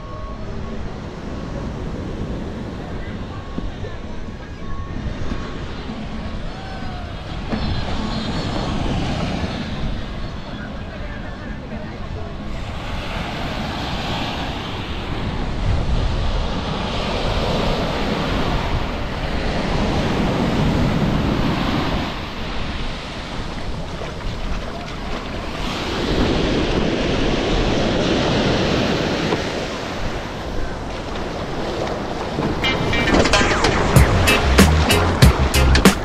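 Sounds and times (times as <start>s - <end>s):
wind buffeting microphone: 0.0s - 34.6s
waves washing on beach: 0.0s - 36.0s.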